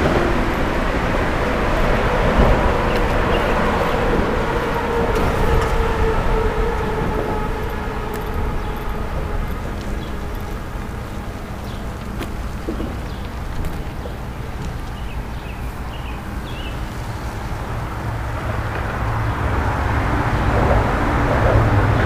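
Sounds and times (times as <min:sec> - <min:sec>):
road vehicle rumble: 0:00.0 - 0:22.0.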